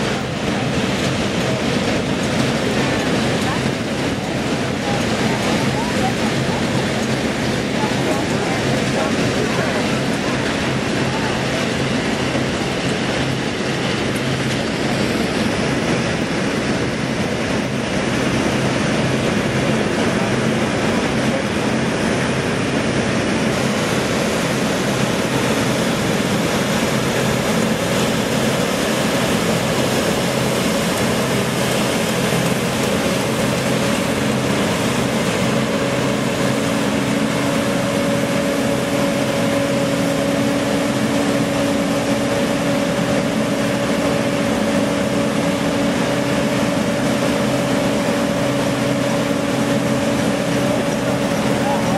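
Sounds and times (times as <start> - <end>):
combine harvesters running: 0.0 - 51.9
engine hum: 0.0 - 51.9.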